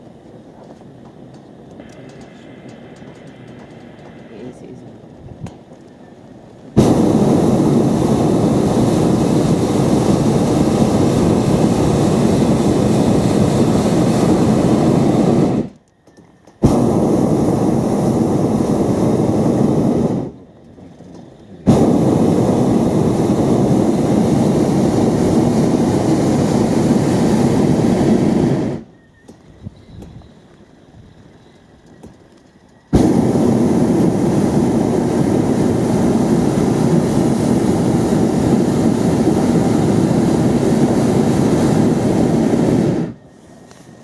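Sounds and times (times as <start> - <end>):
propane burner blasts: 0.0 - 44.0.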